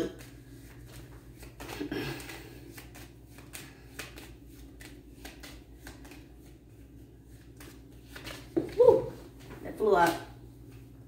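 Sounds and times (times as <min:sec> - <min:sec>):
cards being shuffled by hand: 0:00.0 - 0:11.0.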